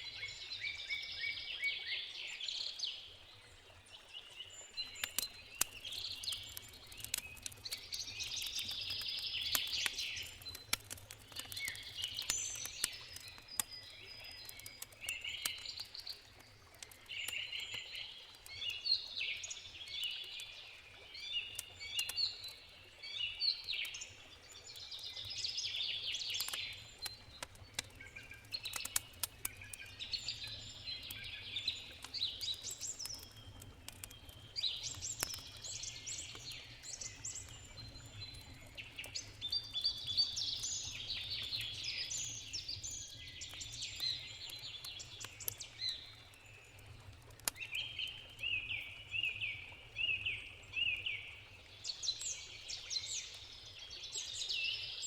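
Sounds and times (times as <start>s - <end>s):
songbirds singing: 0.0s - 55.0s
campfire crackling: 4.6s - 54.4s.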